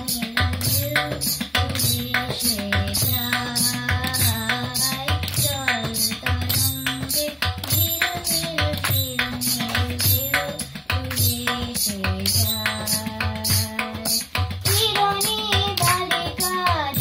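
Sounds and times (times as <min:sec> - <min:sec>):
girl singing: 0:00.0 - 0:17.0
tabla drumming: 0:00.0 - 0:17.0.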